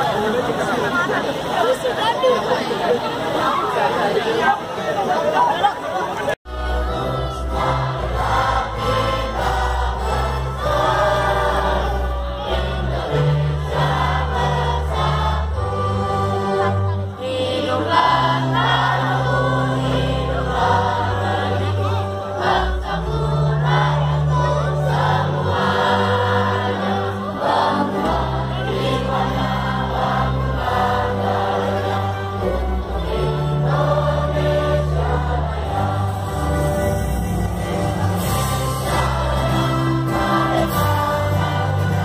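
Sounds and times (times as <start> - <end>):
choir singing a slow song: 6.5 - 42.0.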